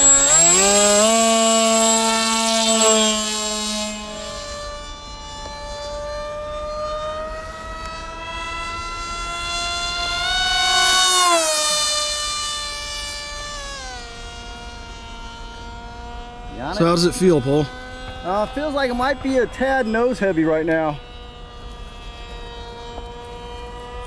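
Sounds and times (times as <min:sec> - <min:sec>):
rc plane motor whining: 0:00.0 - 0:24.0.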